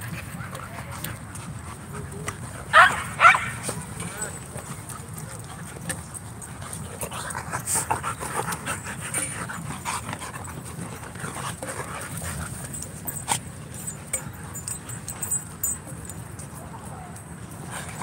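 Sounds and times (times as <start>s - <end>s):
dogs play-fighting: 0.0s - 18.0s.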